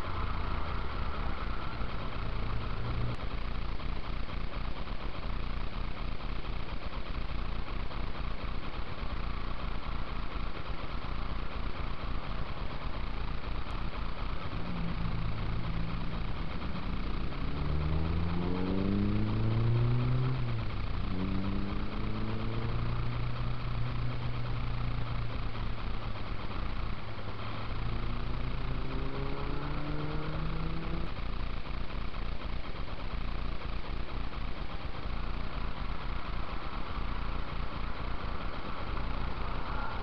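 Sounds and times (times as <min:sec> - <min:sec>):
car engine accelerating: 0:00.0 - 0:40.0
steady rushing noise: 0:00.0 - 0:40.0.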